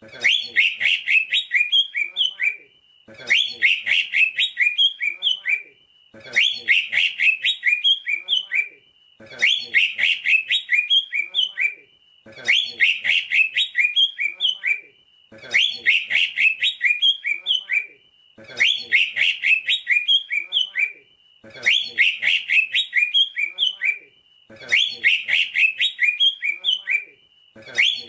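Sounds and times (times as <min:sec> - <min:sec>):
bird chirping song: 0:00.0 - 0:28.0.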